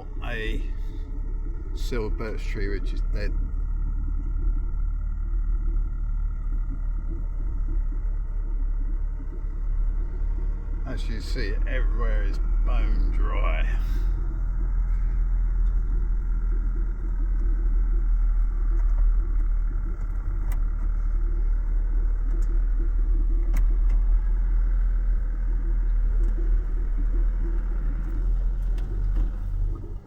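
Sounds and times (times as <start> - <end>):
vehicle engine rumble: 0.0 - 30.0.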